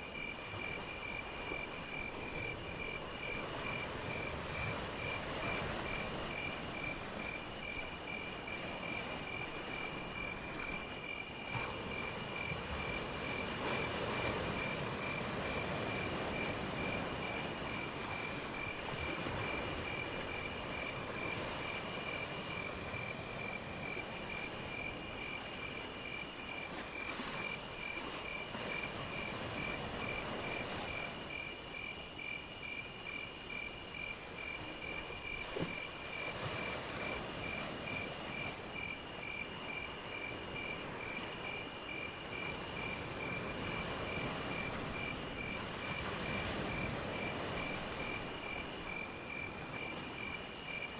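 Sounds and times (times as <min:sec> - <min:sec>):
cricket pulsing chirp: 0:00.0 - 0:50.9.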